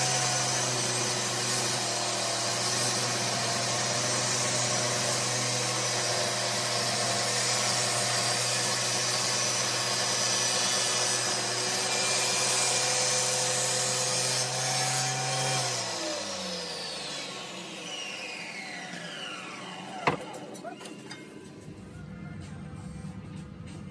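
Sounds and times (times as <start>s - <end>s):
table saw cutting wood: 0.0s - 21.2s
saw winding down: 0.0s - 21.5s.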